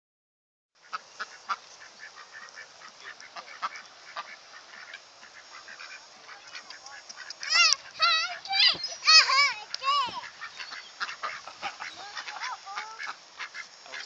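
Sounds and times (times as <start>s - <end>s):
ducks quacking and coots clucking: 0.8s - 14.0s.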